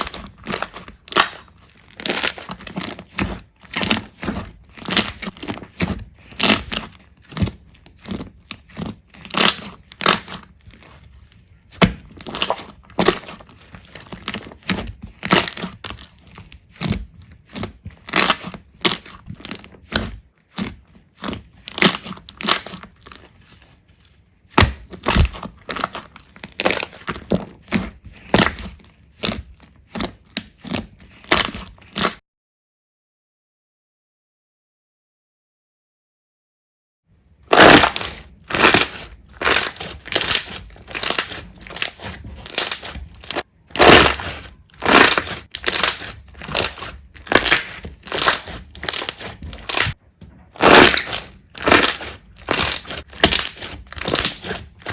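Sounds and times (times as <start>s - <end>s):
slime crackling and popping: 0.0s - 23.6s, 24.5s - 32.2s, 37.4s - 54.9s.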